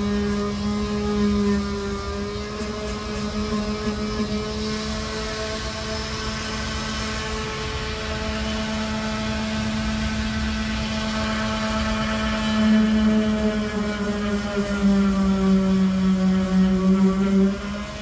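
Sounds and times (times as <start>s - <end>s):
motor droning hum: 0.0s - 18.0s.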